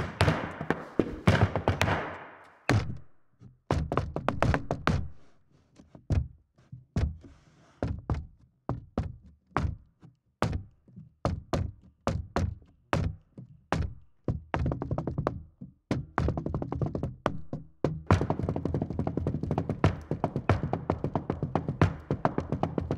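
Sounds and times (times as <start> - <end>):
tap shoes on wooden board: 0.0 - 3.0, 3.7 - 5.2, 7.0 - 9.8, 10.4 - 22.9.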